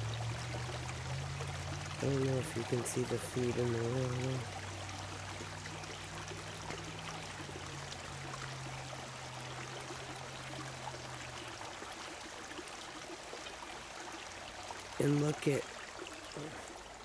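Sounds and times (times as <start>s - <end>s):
creek water trickling over rocks: 0.0s - 17.0s.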